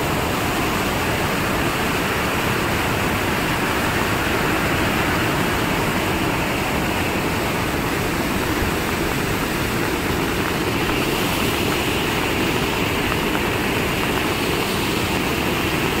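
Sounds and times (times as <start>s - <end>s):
river rushing in flood: 0.0s - 16.0s.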